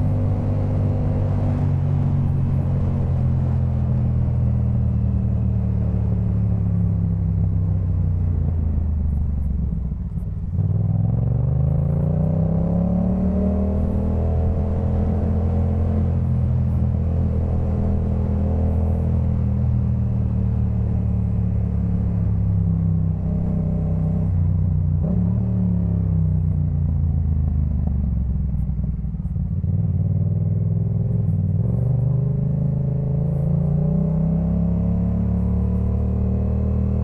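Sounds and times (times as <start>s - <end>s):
motorcycle engine on the road: 0.0s - 37.0s.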